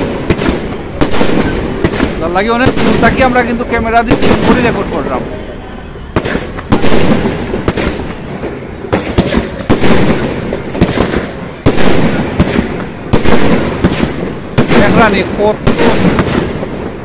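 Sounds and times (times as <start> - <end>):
fireworks bangs with echo: 0.0 - 17.0.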